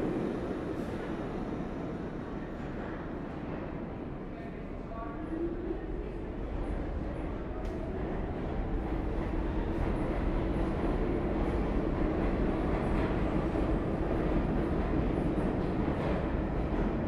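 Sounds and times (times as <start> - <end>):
subway train running: 0.0 - 17.0.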